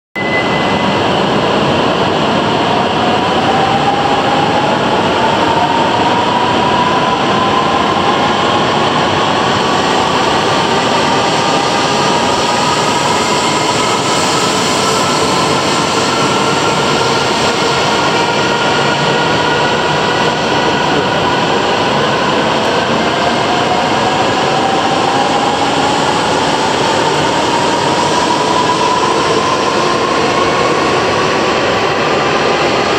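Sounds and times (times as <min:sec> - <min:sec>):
rising whine of train: 0:00.2 - 0:32.9
train rushing: 0:00.2 - 0:32.9.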